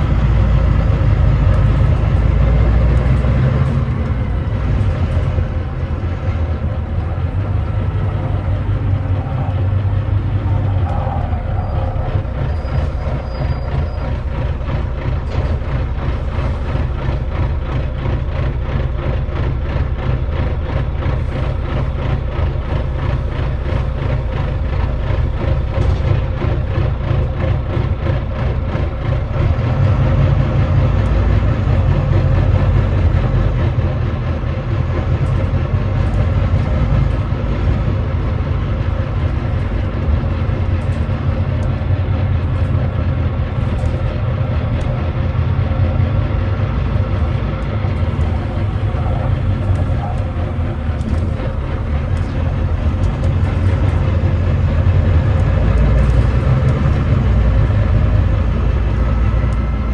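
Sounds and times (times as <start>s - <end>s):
misfiring diesel bus engine: 0.0s - 59.9s.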